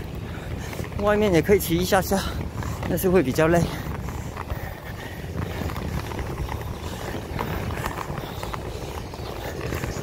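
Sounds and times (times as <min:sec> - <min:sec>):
skate wheels rumbling on bricks: 0:00.0 - 0:10.0
wheels clicking over brick joints: 0:00.0 - 0:10.0.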